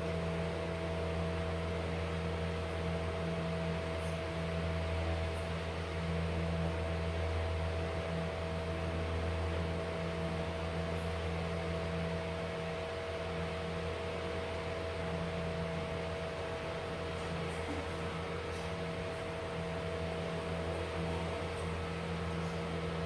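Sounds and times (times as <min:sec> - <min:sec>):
mechanical hum over hiss: 0:00.0 - 0:23.0.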